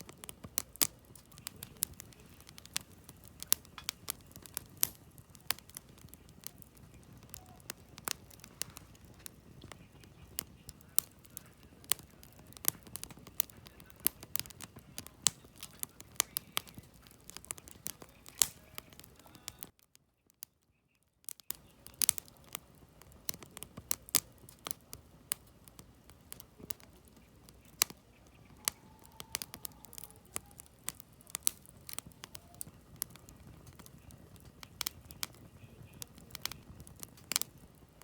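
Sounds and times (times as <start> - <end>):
flames rushing: 0.0 - 19.8, 21.5 - 38.0
campfire crackling and popping: 0.0 - 38.0.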